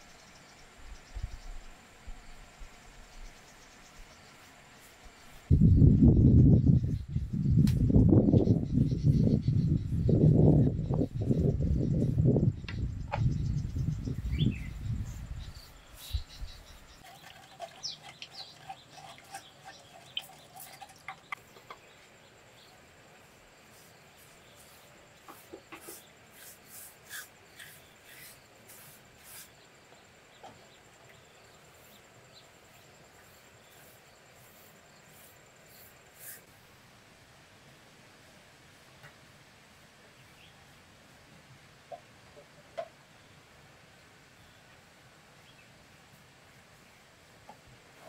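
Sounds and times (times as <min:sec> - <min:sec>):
faint birds: 0:00.0 - 0:36.7, 0:39.0 - 0:48.0
faint insects: 0:00.0 - 0:48.0.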